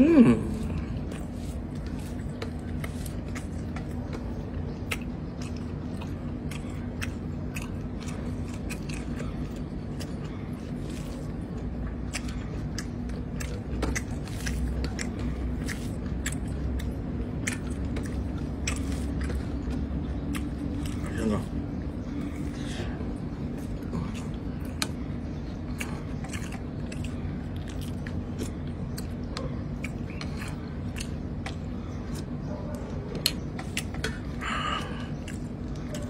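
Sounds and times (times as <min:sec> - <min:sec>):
low hum: 0:00.0 - 0:36.0
person chewing and smacking: 0:00.0 - 0:36.0.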